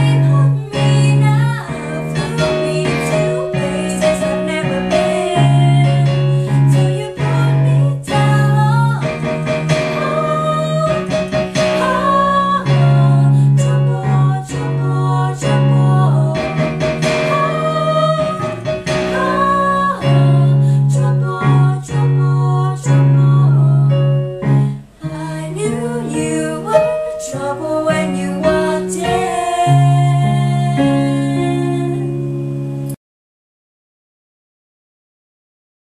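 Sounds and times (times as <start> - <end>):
women singing: 0.0 - 32.2
digital piano chords: 0.0 - 33.0.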